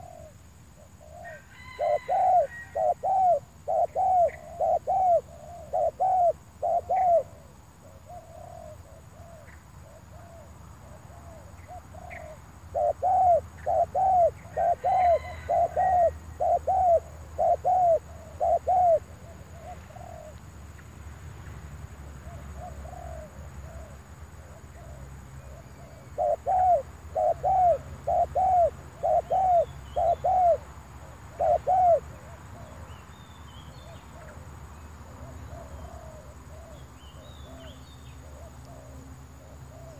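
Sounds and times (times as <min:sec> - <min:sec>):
dove cooing: 0:00.0 - 0:20.4, 0:22.2 - 0:30.7, 0:31.3 - 0:32.9, 0:35.0 - 0:39.9.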